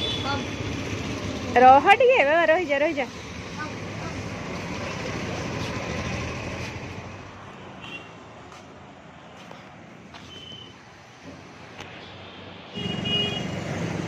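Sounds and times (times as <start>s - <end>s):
street traffic rush: 0.0s - 14.0s.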